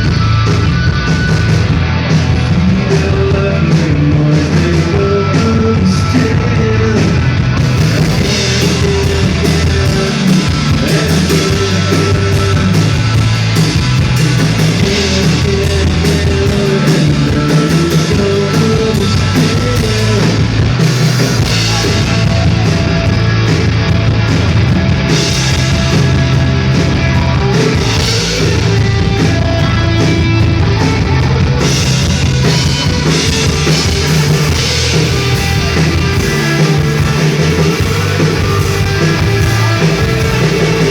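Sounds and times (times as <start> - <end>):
drum kit pounding: 0.0 - 40.9
live rock band: 0.0 - 40.9.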